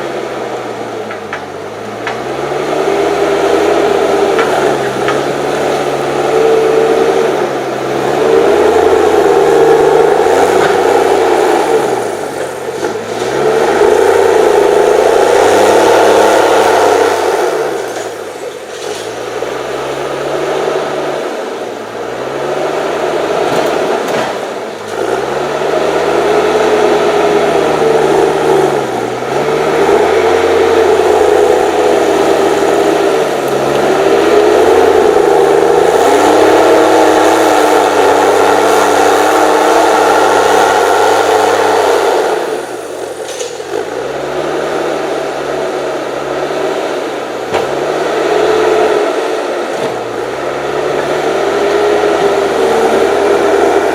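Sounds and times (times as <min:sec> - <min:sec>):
diesel engine revving: 0:00.0 - 0:53.9.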